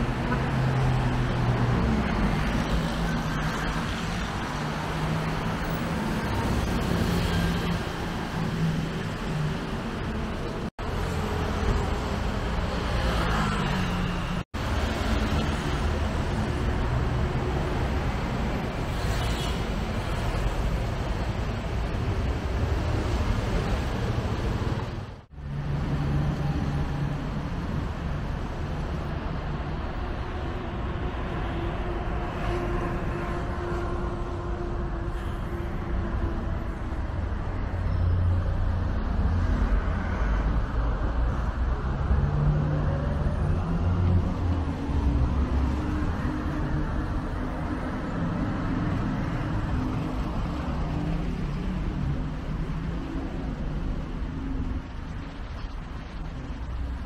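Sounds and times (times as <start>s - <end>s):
city road traffic: 0.0s - 57.0s.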